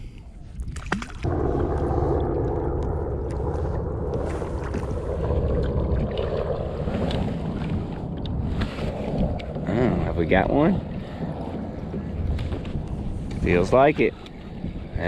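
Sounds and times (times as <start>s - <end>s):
rushing wind and water: 0.0s - 15.0s.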